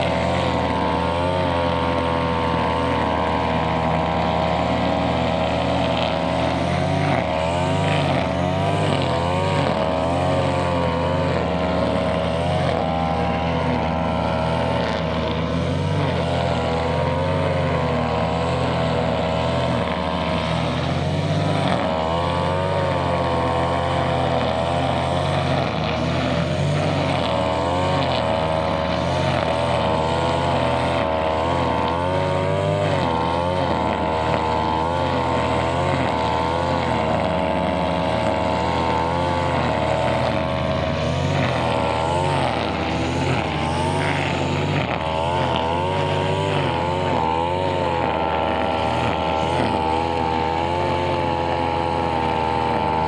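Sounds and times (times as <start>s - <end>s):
brushcutter engine trimming grass: 0.0s - 53.0s.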